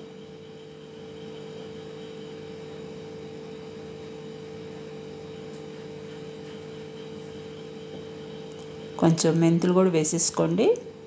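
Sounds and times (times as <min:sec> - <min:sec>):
steady mid-pitched hum: 0:00.0 - 0:11.0.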